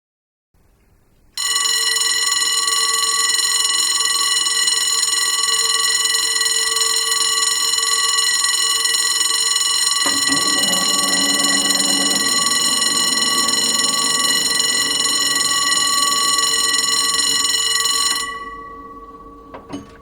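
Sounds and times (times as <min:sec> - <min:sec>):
railroad crossing bell ringing: 0:01.4 - 0:20.0.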